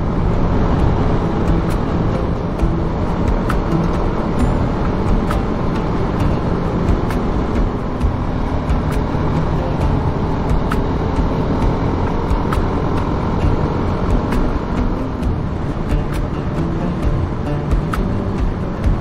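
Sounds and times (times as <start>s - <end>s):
motorcycle engine cruising: 0.0s - 19.0s
wind rush over microphone: 0.0s - 19.0s.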